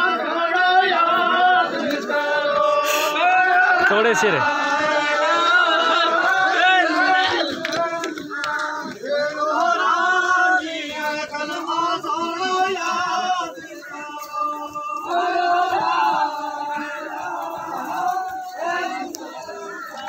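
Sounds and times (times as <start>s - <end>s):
group of voices singing: 0.0s - 20.0s.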